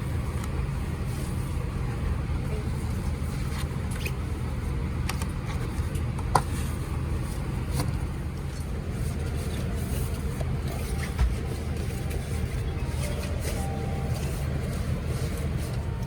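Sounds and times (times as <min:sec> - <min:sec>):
airliner cabin hum: 0:00.0 - 0:16.0.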